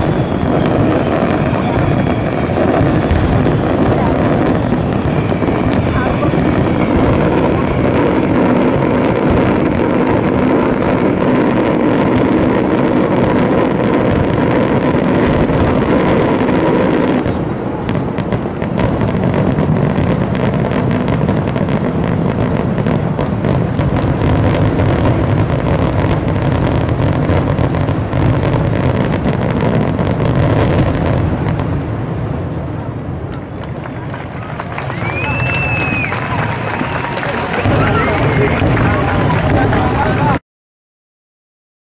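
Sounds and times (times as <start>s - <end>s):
fireworks bursts and crackling: 0.0s - 40.4s.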